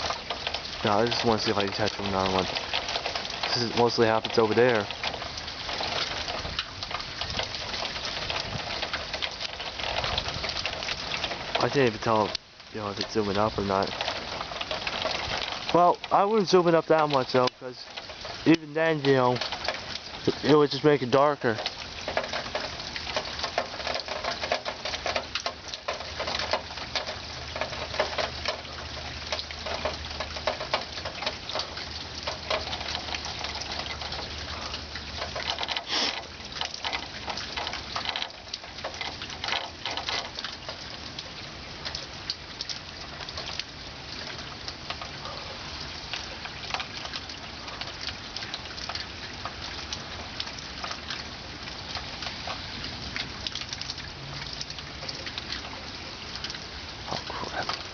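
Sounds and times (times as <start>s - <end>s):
rain pattering and dripping: 0.0s - 57.9s.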